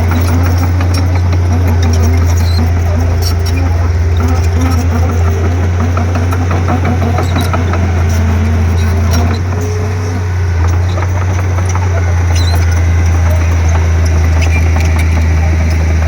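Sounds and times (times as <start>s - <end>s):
bulldozer diesel engine drone: 0.0s - 16.0s
short squeaks: 0.0s - 16.0s.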